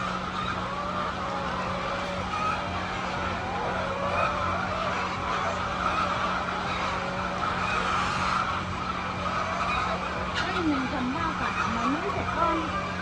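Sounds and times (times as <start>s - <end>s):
chickens clucking: 0.0s - 13.0s
steady low hum: 0.0s - 13.0s.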